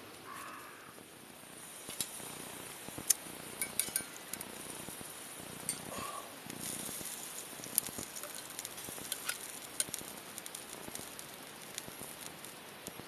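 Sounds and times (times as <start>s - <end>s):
wood fire crackling: 0.0s - 13.0s
sharp pops of fire: 1.0s - 13.0s.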